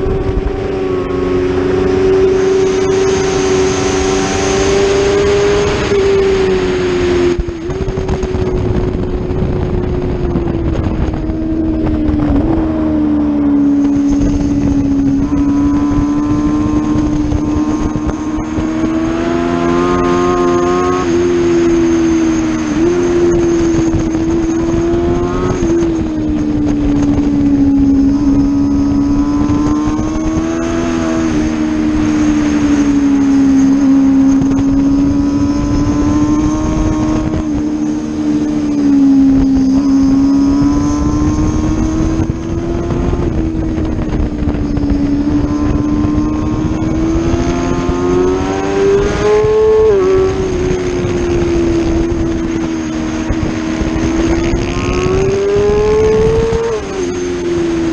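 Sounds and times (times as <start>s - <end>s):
motorcycle engine at high revs: 0.0s - 57.9s
wind rush on microphone: 0.0s - 57.9s.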